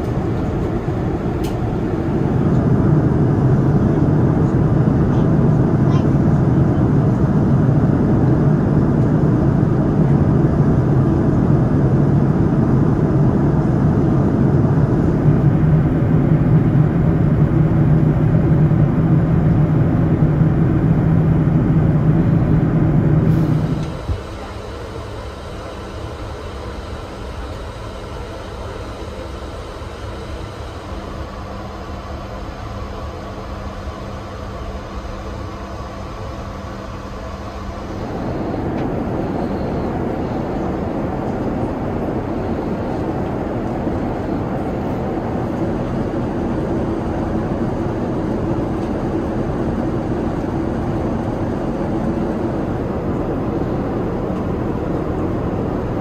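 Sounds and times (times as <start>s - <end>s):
aircraft cabin hum with tones: 0.0s - 56.0s
rush of airflow and engines: 0.0s - 56.0s.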